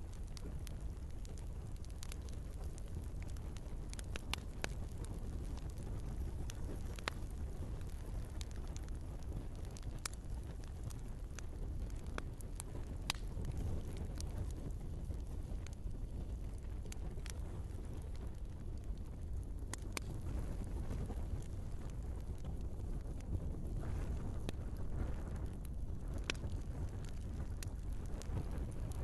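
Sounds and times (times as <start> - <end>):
fire burning with low rush: 0.0 - 29.0
wood crackling and popping: 0.0 - 29.0.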